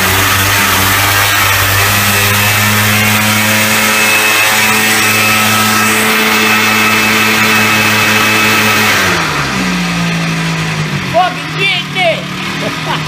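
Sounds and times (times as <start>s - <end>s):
atv engine at high revs: 0.0s - 13.0s.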